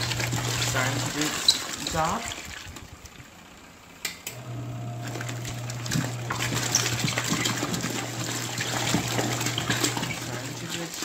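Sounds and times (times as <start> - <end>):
water splashing: 0.0 - 3.3, 5.0 - 11.0
washing machine motor humming: 0.0 - 11.0.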